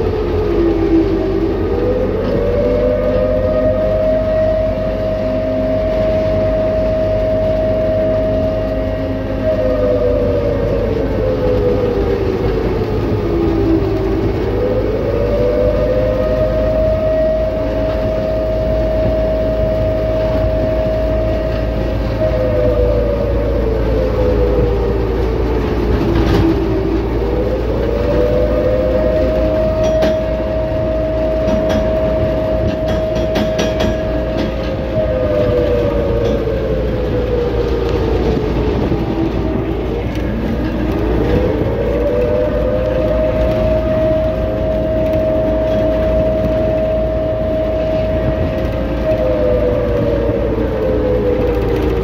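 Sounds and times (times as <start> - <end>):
two-note siren wail: 0.0 - 52.0
vehicle rumbling: 0.0 - 52.0.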